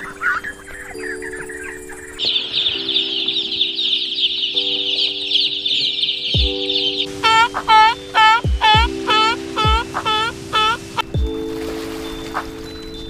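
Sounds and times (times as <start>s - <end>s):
background music with low thump: 2.2s - 13.0s.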